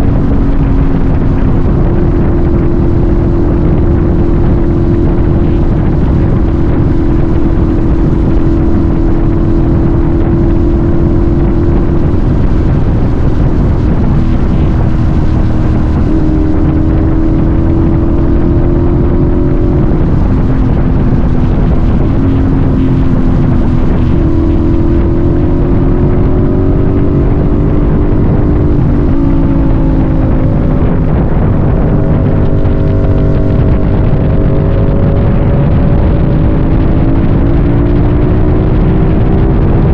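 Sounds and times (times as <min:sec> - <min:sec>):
vehicle engine revving: 0:00.0 - 0:39.9
wind rush over microphone: 0:00.0 - 0:39.9.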